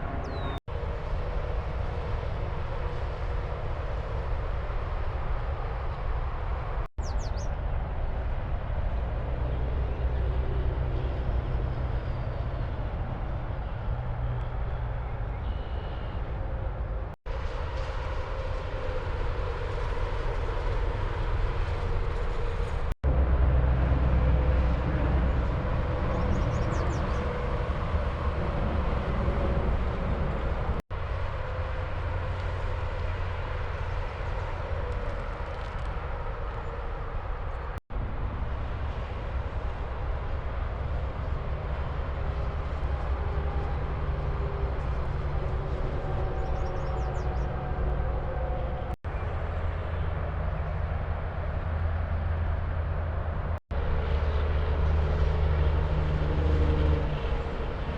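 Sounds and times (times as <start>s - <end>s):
highway traffic rumble: 0.0s - 57.9s.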